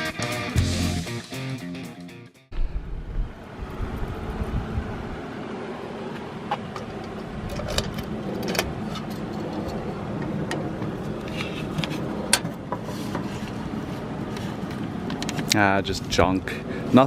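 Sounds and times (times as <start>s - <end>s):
vehicle engine humming: 2.5s - 17.0s.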